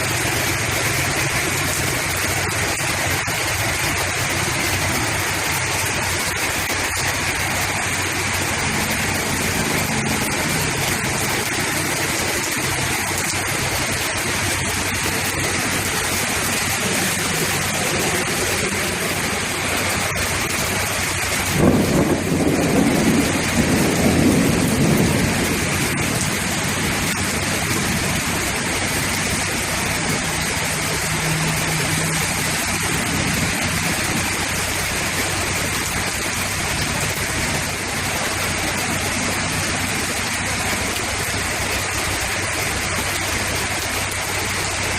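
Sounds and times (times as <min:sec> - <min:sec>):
heavy rain pouring: 0:00.0 - 0:44.9
low rumble: 0:00.2 - 0:43.0.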